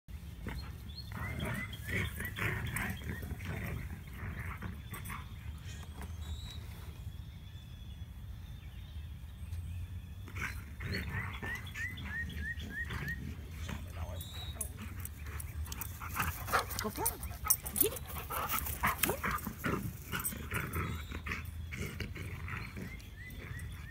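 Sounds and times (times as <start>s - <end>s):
dogs growling and snarling: 0.1s - 6.6s, 10.1s - 23.9s.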